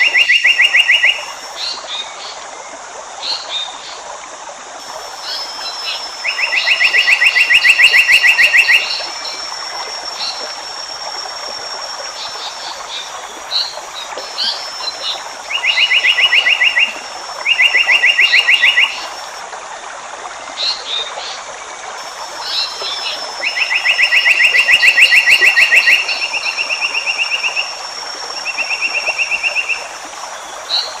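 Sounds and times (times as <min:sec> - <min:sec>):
natural hiss: 0:00.0 - 0:31.0.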